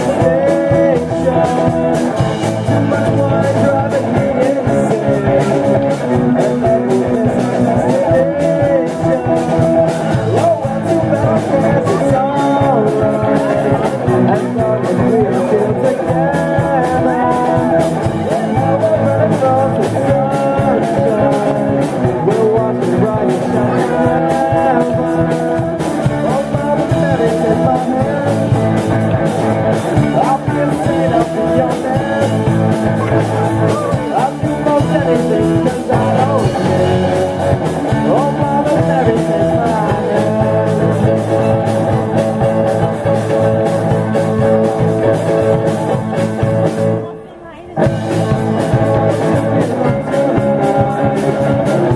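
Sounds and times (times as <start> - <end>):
drum kit beat: 0.0 - 47.0, 47.8 - 51.9
bass guitar: 0.0 - 51.9
electric guitar: 0.0 - 51.9
keyboard: 0.0 - 51.9
person singing: 0.0 - 51.9.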